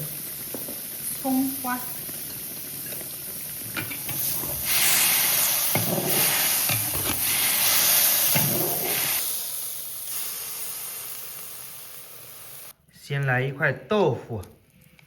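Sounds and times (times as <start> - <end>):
soup pot hissing: 0.0 - 12.8.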